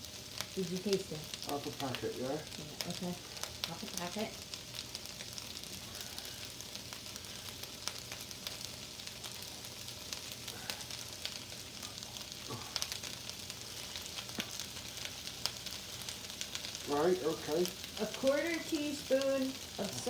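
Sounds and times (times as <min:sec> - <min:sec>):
onions sizzling in a pan: 0:00.0 - 0:20.0
small crackles and pops: 0:00.0 - 0:20.0.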